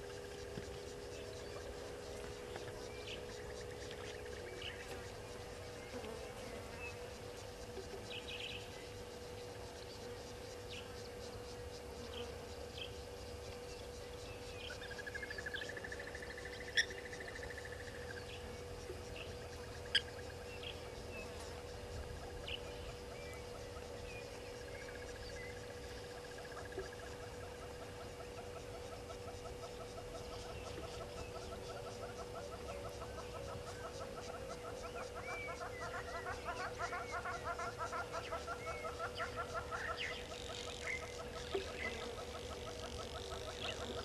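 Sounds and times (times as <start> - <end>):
insect chirps: 0.0 - 44.0
rapid insect trill: 0.0 - 44.0
steady low hum: 0.0 - 44.0.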